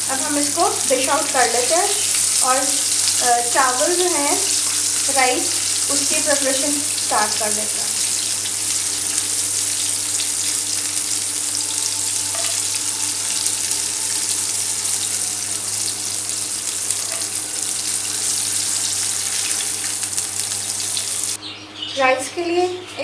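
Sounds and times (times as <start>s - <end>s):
chicken frying in hot oil: 0.0s - 21.4s.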